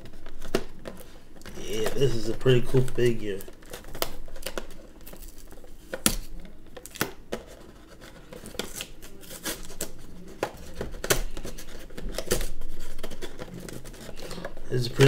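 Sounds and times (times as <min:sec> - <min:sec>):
plastic and cardboard packaging rustling: 0:00.0 - 0:15.0.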